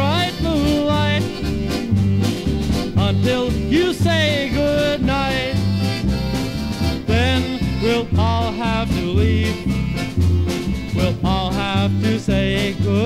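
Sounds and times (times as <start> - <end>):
polka band playing: 0.0 - 13.0.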